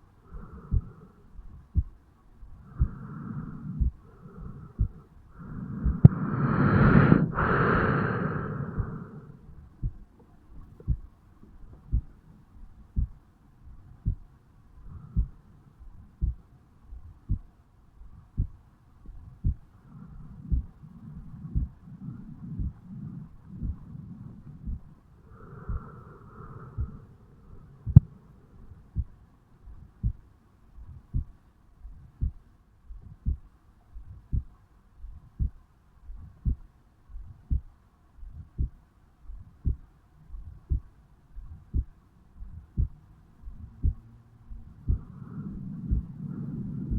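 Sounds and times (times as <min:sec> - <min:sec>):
low rumbling noise: 0:00.2 - 0:30.2, 0:36.1 - 0:46.9
heartbeat thumps: 0:00.3 - 0:26.0, 0:26.6 - 0:46.9.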